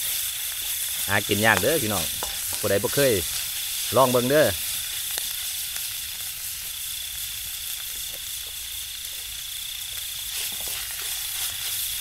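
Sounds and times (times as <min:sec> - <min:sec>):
spatula scraping wok: 0:00.0 - 0:05.9, 0:07.7 - 0:12.0
stir-fry sizzling in wok: 0:00.0 - 0:12.0.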